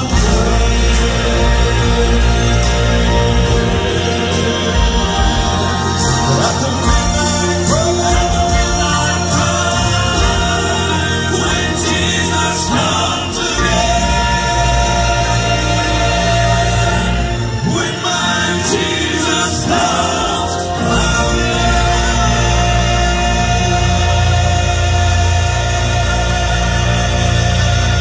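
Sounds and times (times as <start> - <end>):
instrumental backing: 0.0 - 28.0
men singing in harmony: 0.0 - 28.0.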